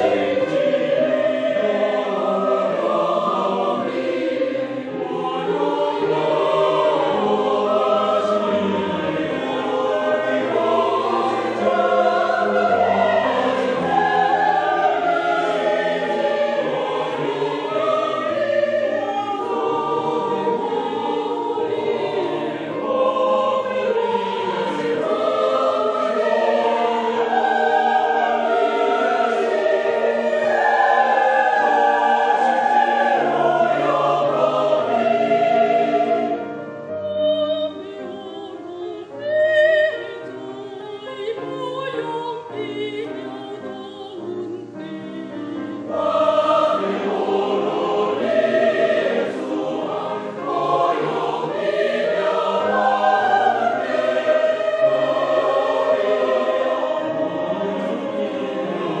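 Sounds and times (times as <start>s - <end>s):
choir singing a hymn: 0.0s - 59.0s
grand piano accompaniment: 0.0s - 59.0s.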